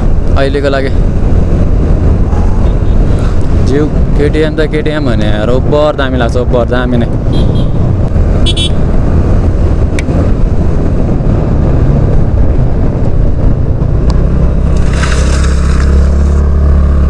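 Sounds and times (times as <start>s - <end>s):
motorcycle engine drone: 0.0s - 17.0s
wind and road rush: 0.0s - 17.0s.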